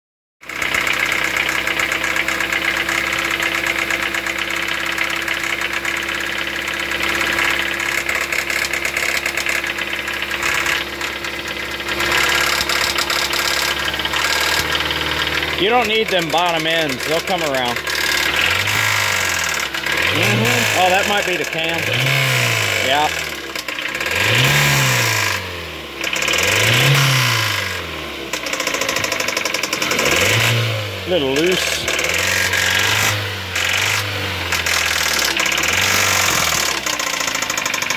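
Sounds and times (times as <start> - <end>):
car engine idling: 0.4 - 37.9.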